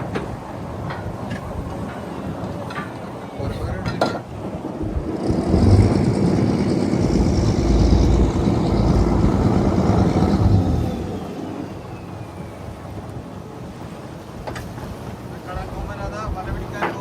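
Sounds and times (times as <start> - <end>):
boat engine low drone: 0.0 - 17.0.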